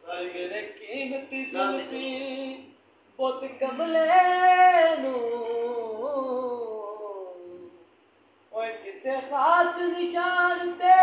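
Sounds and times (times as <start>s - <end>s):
man singing unaccompanied: 0.0s - 7.8s, 8.5s - 11.0s.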